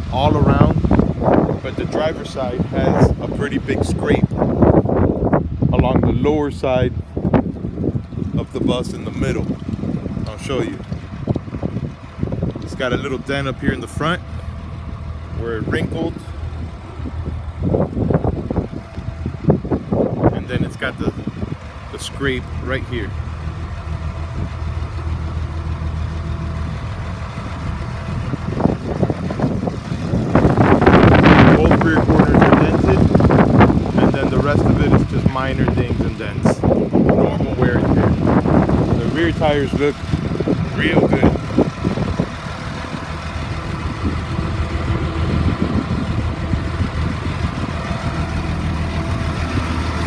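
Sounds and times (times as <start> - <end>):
diesel bus engine idling: 0.0 - 50.0.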